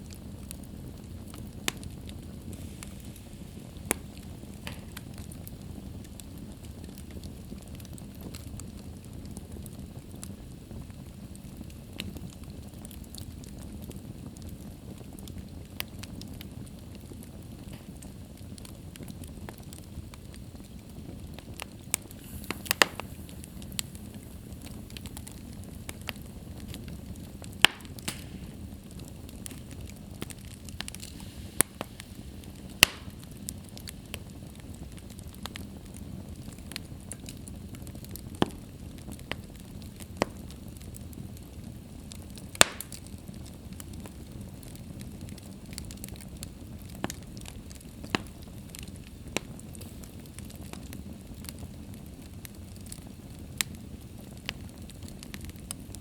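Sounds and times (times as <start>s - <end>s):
fire popping and crackling: 0.0s - 56.0s
flames rushing: 0.0s - 56.0s.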